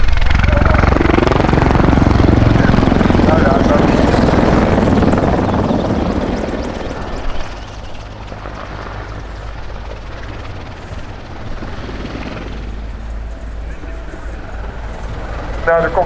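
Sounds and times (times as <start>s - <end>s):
helicopter flying past: 0.0s - 16.0s.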